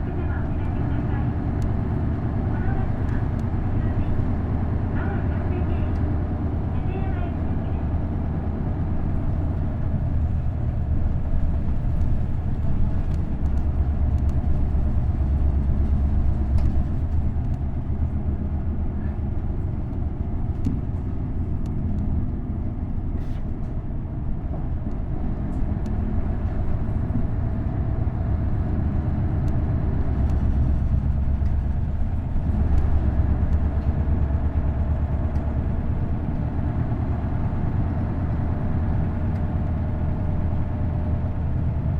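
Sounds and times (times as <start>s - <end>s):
bus engine drone: 0.0s - 41.9s
road noise: 0.0s - 41.9s.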